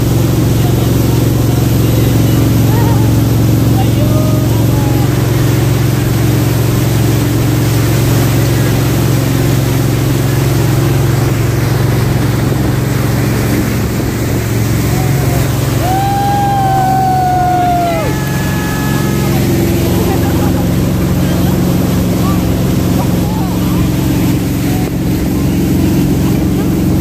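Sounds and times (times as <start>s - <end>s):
boat engine running: 0.0s - 27.0s
water rushing around hull: 0.0s - 27.0s.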